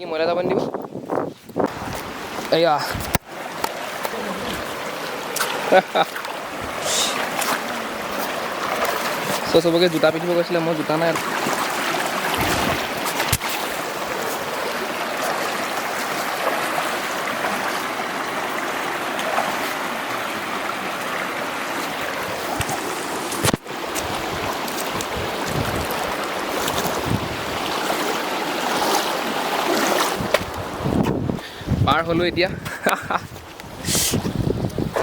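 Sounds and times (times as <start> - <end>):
stream rushing while wading: 0.4 - 31.8.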